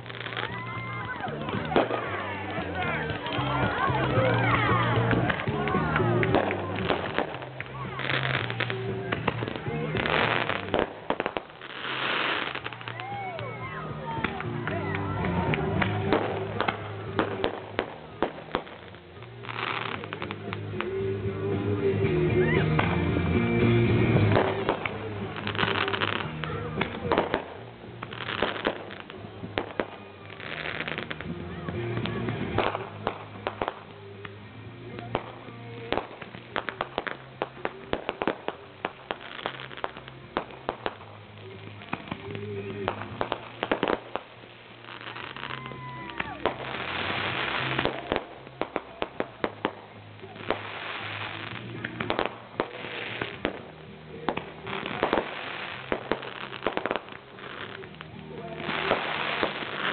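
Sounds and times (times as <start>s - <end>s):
firecracker pops and crackles: 0.0s - 21.1s, 22.6s - 23.2s, 24.0s - 59.9s
hissing firework bursts: 0.0s - 21.2s, 24.0s - 59.9s.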